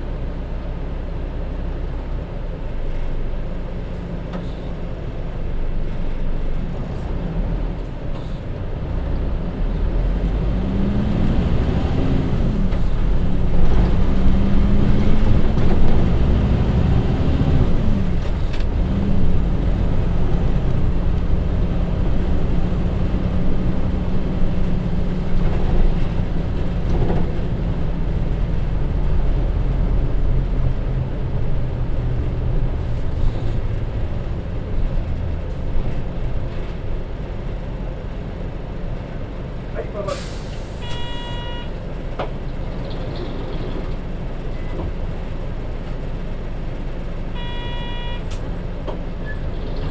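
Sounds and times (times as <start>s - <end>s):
bus diesel engine accelerating: 0.0s - 49.9s
road rumble: 0.0s - 49.9s.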